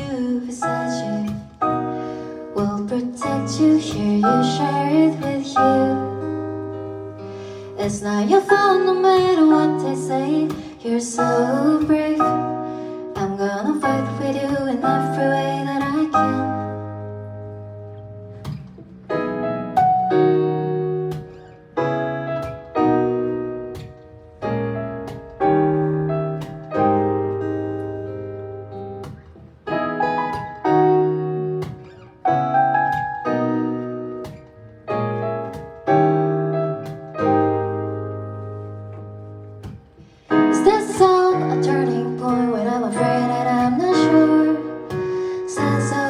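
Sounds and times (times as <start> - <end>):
piano chords: 0.0 - 46.0.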